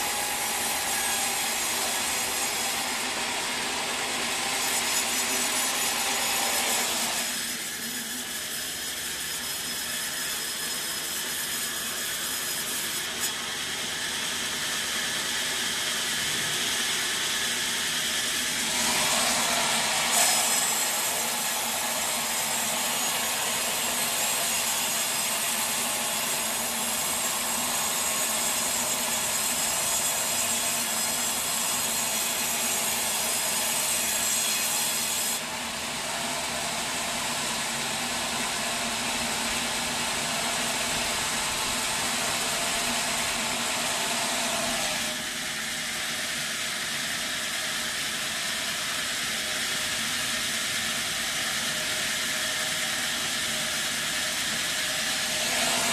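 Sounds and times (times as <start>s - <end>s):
saw cutting through log: 0.0s - 55.9s.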